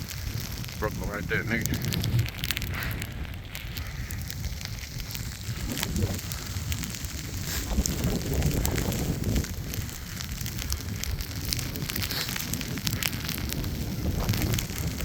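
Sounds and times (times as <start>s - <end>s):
crackles and crunches: 0.0s - 15.0s
wind rumbling on microphone: 0.0s - 15.0s.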